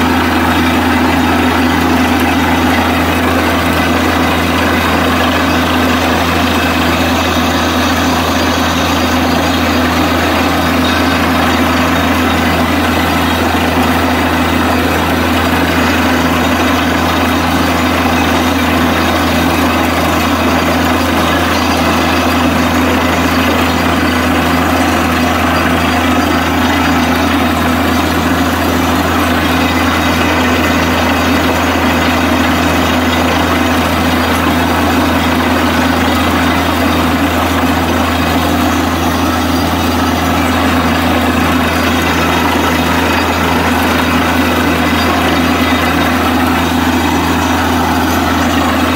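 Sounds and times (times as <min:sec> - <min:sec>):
drilling rig engine running: 0:00.0 - 0:48.9.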